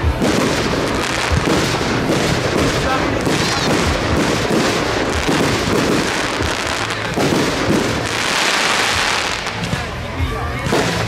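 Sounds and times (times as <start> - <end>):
fireworks crackling: 0.0 - 11.0
low firework thuds: 0.0 - 11.0.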